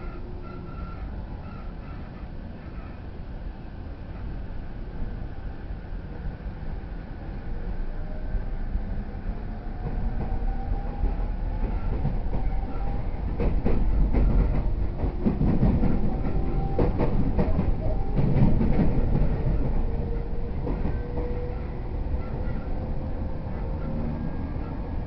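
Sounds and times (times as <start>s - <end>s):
train cabin low rumble: 0.0s - 25.0s.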